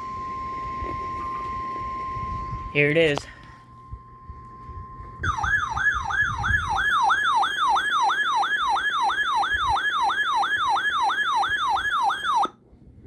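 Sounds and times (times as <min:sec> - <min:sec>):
warbling electronic siren alarm: 0:00.0 - 0:02.8, 0:03.7 - 0:12.6.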